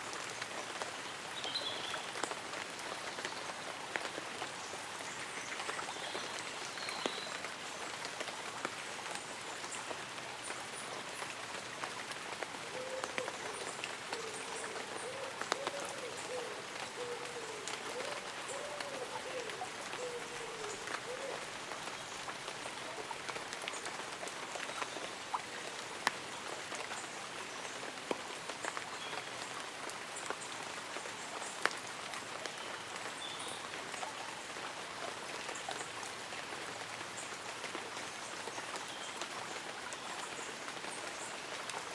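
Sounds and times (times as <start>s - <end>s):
rain pattering on leaves and umbrella: 0.0s - 41.9s.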